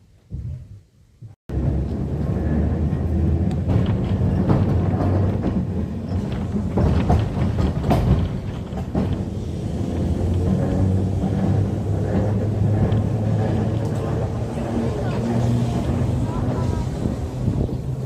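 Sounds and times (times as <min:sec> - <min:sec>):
tram rumbling: 0:01.2 - 0:18.0
wheels clicking on rails: 0:01.5 - 0:18.0.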